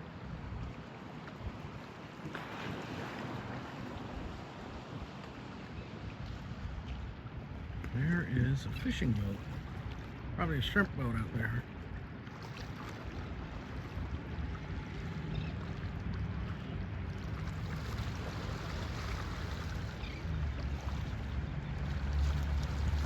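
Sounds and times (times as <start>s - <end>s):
surf washing along shore: 0.0s - 23.0s.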